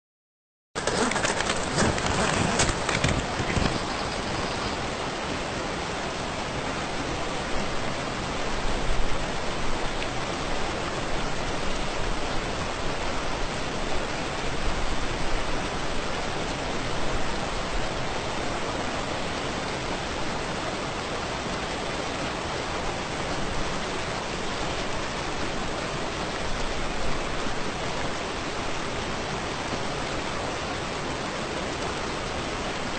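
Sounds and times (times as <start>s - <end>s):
waterfall rushing: 0.8s - 32.9s.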